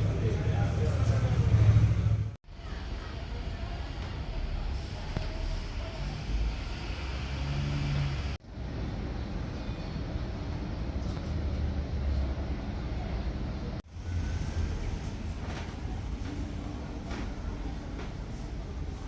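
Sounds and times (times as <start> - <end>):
vehicle rumble: 0.0 - 17.6.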